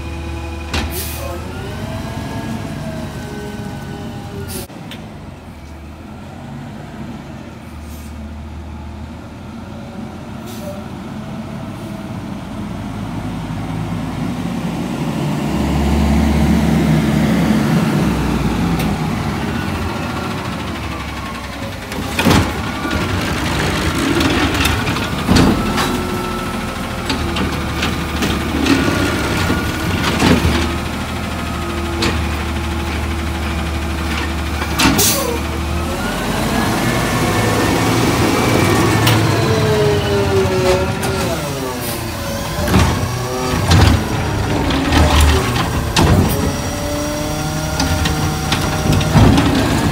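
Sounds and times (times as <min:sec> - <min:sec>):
garbage truck engine approaching: 0:00.0 - 0:49.9.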